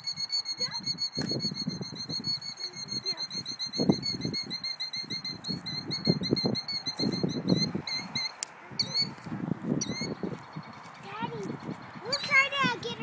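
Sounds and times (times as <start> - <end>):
killdeer alarm calls: 0.0 - 9.2, 9.8 - 11.0.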